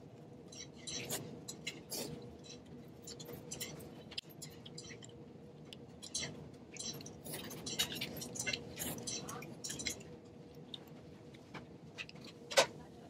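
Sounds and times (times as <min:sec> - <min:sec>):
chewing: 0:00.2 - 0:11.4.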